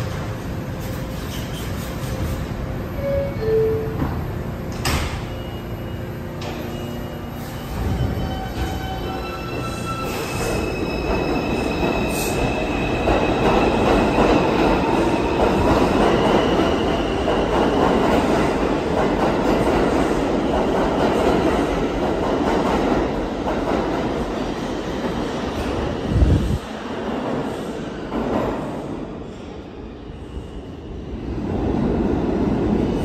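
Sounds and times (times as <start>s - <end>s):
train wheels rumbling on rail: 6.2s - 33.0s.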